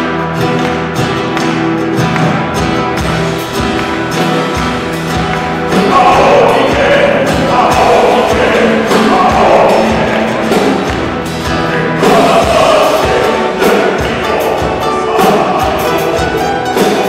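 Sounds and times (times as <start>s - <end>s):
acoustic guitars strumming: 0.0s - 17.0s
drum beat: 1.8s - 17.0s.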